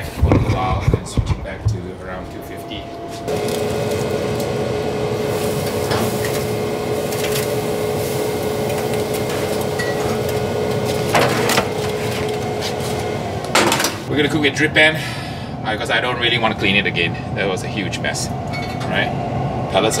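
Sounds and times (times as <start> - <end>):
grill fan hum: 0.0 - 20.0
thin steady whine: 0.0 - 20.0.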